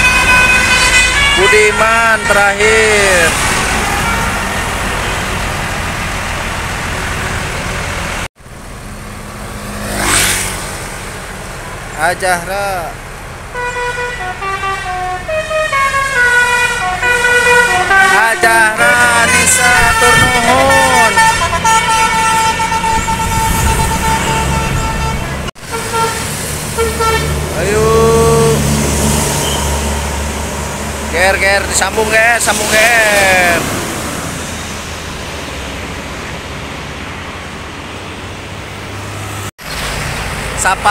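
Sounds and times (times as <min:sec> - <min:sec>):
buses passing: 0:00.0 - 0:40.9
tyre and engine noise: 0:00.0 - 0:40.9.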